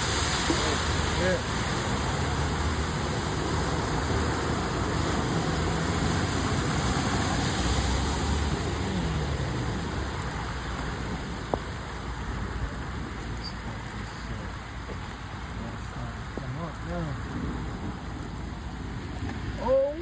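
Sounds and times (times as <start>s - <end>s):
car engine hum: 0.0s - 19.8s
rain: 0.0s - 20.0s
rushing water: 0.0s - 20.0s.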